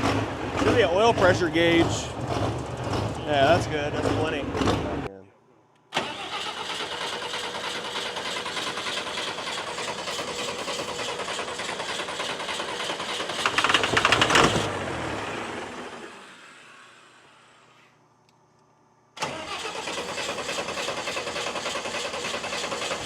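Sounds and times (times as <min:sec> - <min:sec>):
diesel engine clatter: 0:00.0 - 0:05.2, 0:06.0 - 0:16.1, 0:19.2 - 0:23.0.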